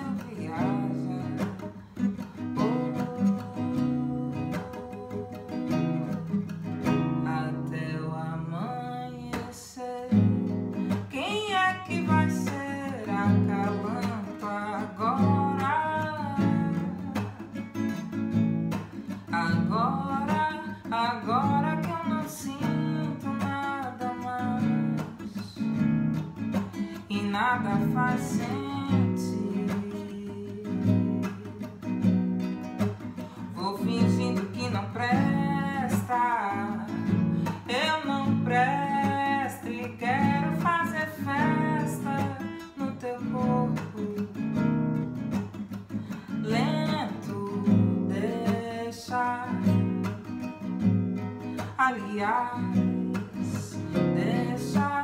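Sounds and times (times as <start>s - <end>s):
classical guitar strumming: 0.0s - 55.0s
woman singing: 0.0s - 55.0s.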